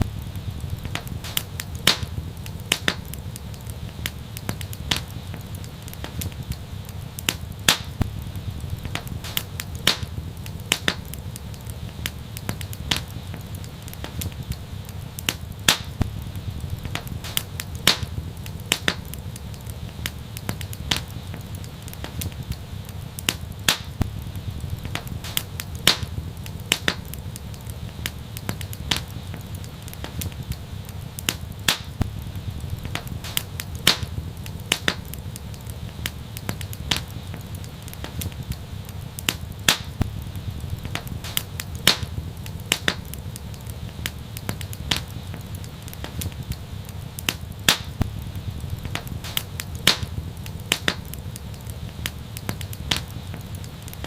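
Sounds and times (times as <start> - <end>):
low rumble of burning fire: 0.0 - 54.0
wood fire crackling and popping: 0.0 - 54.0.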